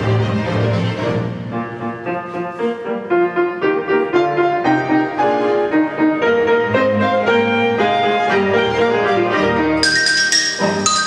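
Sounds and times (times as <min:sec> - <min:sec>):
classical piano music: 0:00.0 - 0:11.0.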